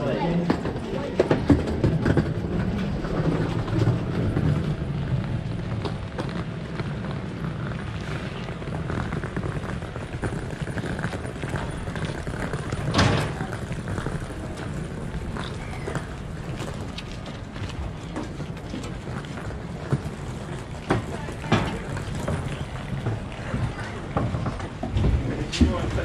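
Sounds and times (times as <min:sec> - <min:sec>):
steady low rumble: 0:00.7 - 0:26.0.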